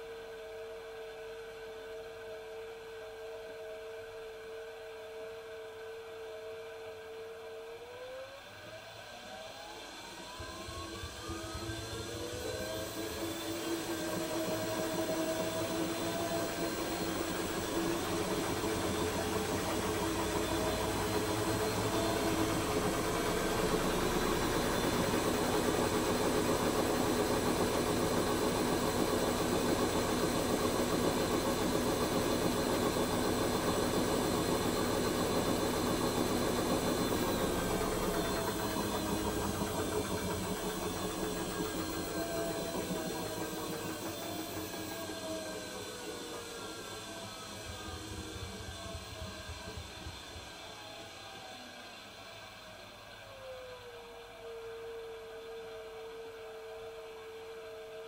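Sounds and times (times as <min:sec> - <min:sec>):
washing machine motor whine: 0:00.0 - 0:58.0.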